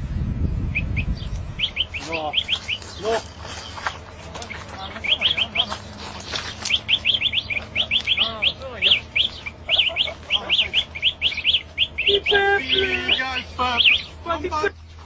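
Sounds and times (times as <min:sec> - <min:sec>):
lower steady call: 0:00.0 - 0:15.0
small birds chirping: 0:00.0 - 0:15.0.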